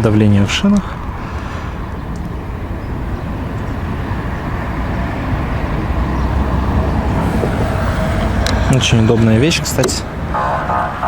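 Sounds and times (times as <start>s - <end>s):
vehicle rumbling by: 0.3s - 11.0s.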